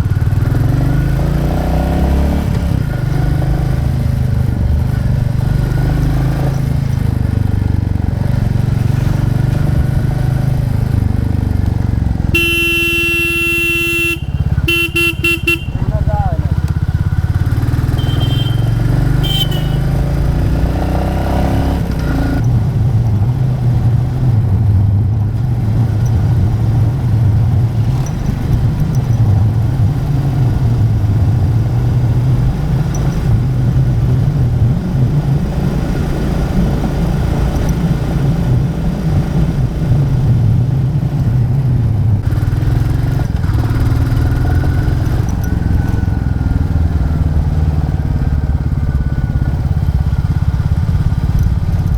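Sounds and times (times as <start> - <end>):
motorcycle engine running: 0.0 - 51.9
road noise: 0.0 - 51.9.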